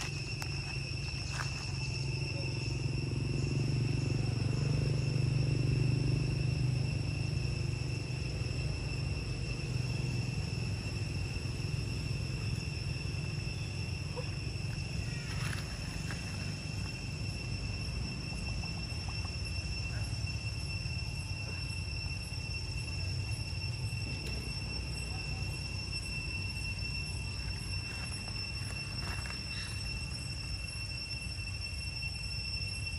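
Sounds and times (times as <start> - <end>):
high-pitched insect drone: 0.0 - 32.9.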